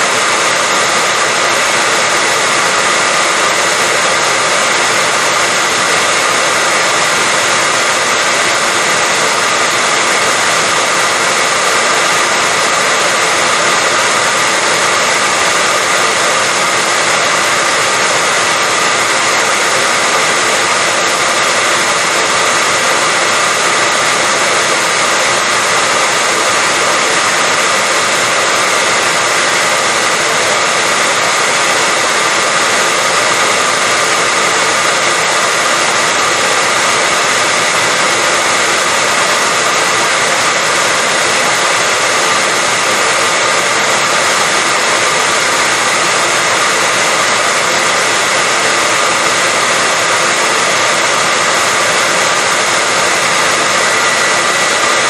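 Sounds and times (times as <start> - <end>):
hair dryer whirring: 0.0 - 55.0.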